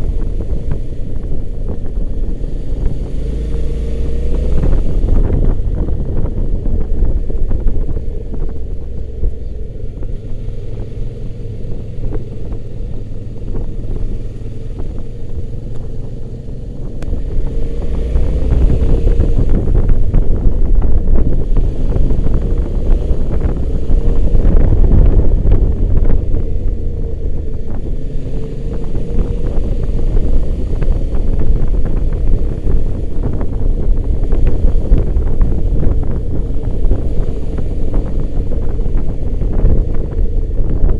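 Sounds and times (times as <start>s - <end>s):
motorcycle engine accelerating: 0.0s - 40.9s
wind rumble on microphone: 0.0s - 40.9s.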